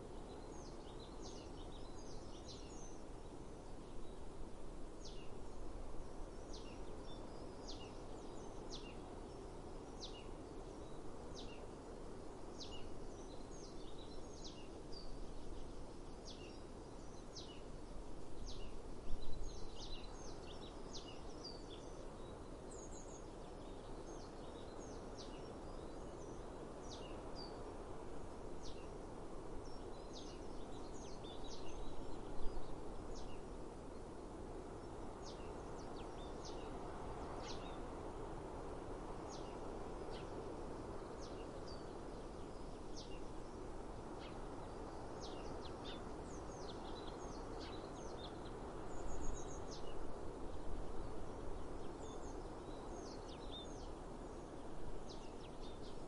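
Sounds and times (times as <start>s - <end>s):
outdoor breeze hiss: 0.0s - 56.0s
songbirds chirping: 0.0s - 56.0s.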